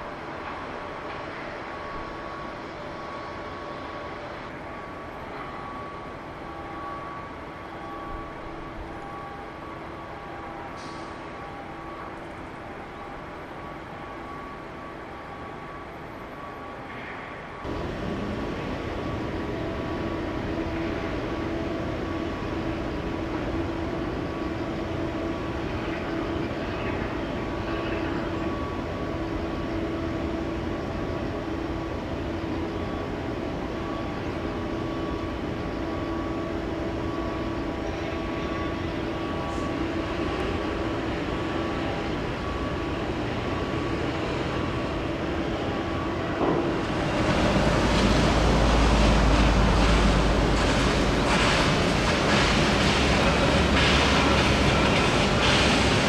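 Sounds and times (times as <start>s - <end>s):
machinery humming and rumbling: 0.0s - 56.0s.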